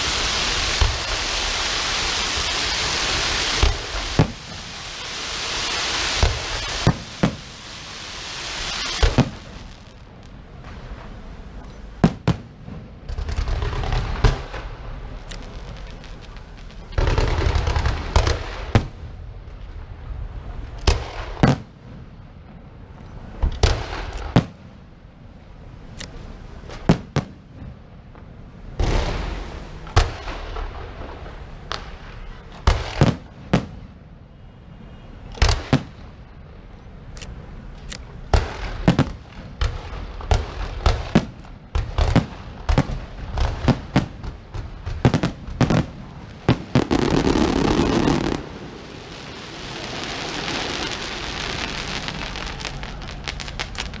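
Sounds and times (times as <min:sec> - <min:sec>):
fireworks sharp bangs: 0:00.0 - 0:24.9, 0:26.0 - 0:28.0, 0:28.7 - 0:54.0
fireworks hissing and crackling: 0:00.0 - 0:54.0.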